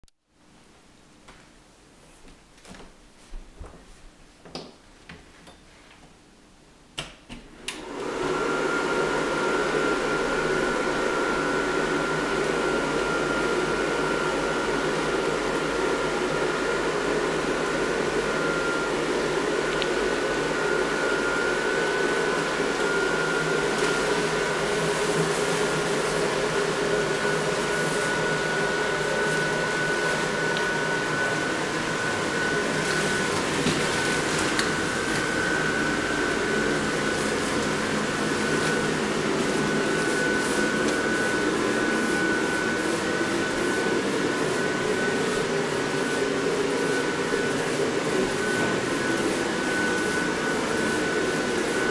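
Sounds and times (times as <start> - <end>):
blower fan whining: 7.5 - 51.9.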